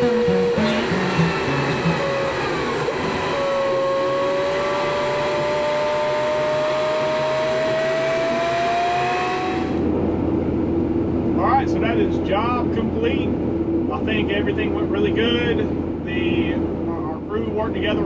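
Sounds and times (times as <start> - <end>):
rising whine: 0.0 - 16.9
engine and road noise: 0.0 - 18.0.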